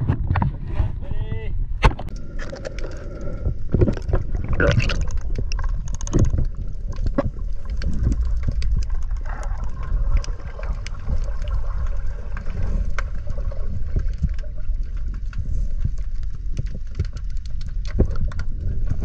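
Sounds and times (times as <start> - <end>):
low underwater rumble: 0.0 - 19.0
sharp clicks and crackles: 1.8 - 19.0.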